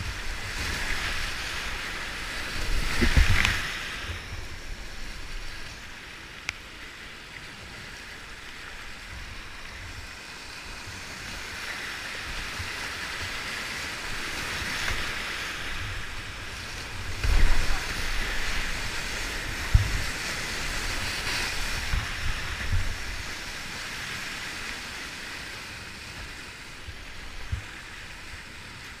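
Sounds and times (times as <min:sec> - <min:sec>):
whitewater rushing: 0:00.0 - 0:07.0, 0:07.6 - 0:29.0.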